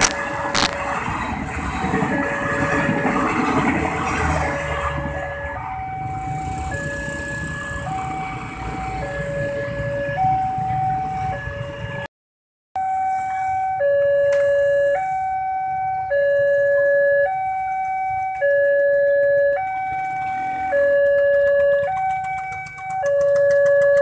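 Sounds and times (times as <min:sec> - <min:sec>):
two-tone level crossing alarm: 0:00.0 - 0:12.1, 0:12.8 - 0:24.0.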